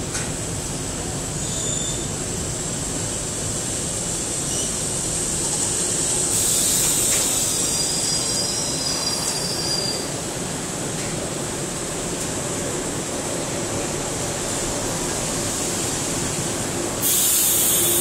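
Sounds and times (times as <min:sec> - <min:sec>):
subway train rolling: 0:00.0 - 0:18.0.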